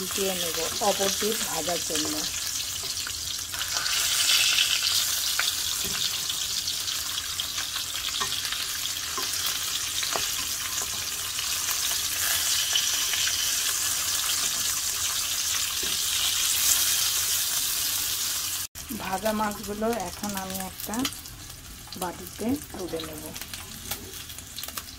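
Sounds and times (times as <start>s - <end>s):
fish sizzling in frying pan: 0.0s - 24.9s.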